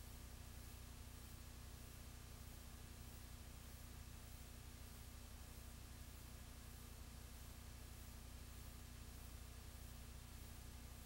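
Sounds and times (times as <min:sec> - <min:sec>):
faint low hum and hiss: 0:00.0 - 0:11.0.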